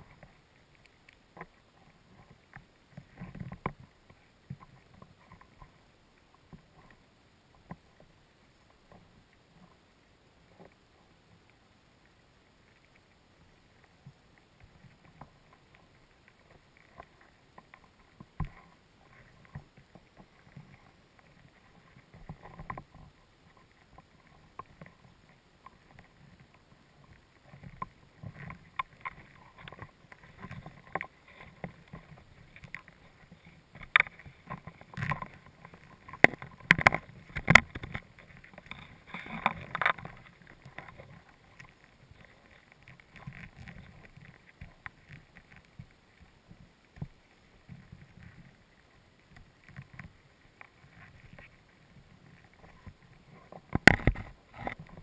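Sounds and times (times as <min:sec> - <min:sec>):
sharp clicks and knocks underwater: 0:00.0 - 0:09.8, 0:12.7 - 0:55.0.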